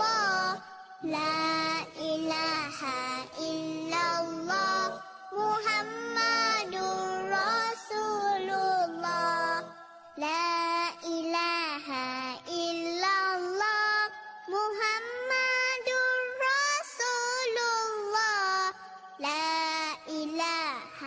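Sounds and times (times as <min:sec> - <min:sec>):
high voice singing a chant: 0:00.0 - 0:21.0.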